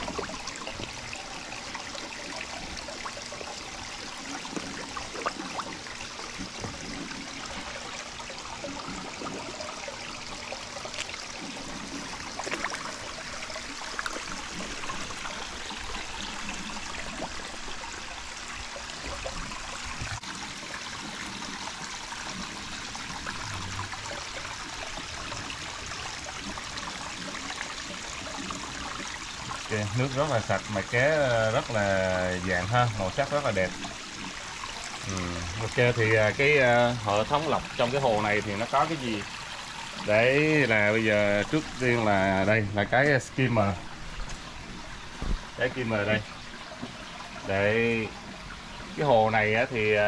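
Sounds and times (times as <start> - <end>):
water trickling into pond: 0.0 - 50.0.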